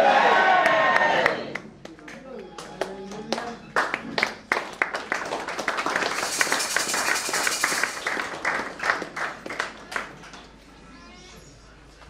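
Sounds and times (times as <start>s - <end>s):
crowd clapping: 0.5s - 10.6s.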